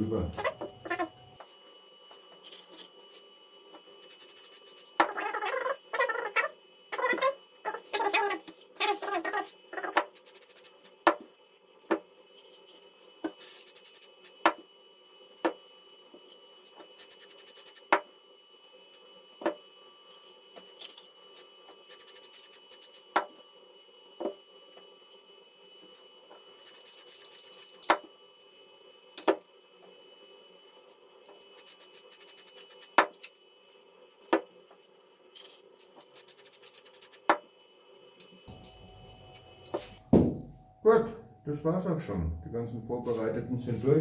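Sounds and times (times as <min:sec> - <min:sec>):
faint steady whine: 0:00.0 - 0:44.0.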